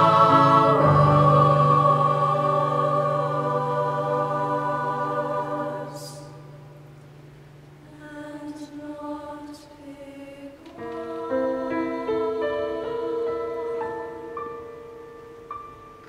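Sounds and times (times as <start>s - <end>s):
youth choir singing: 0.0s - 6.6s, 7.9s - 14.6s
piano notes: 0.0s - 7.7s, 10.7s - 16.0s.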